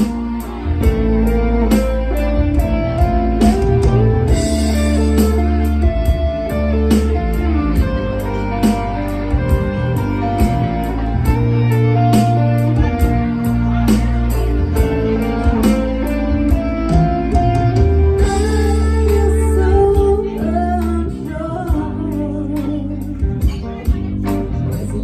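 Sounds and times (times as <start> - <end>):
steady drum beat: 0.0 - 20.3
live band playing: 0.0 - 25.0
person singing: 0.0 - 25.0.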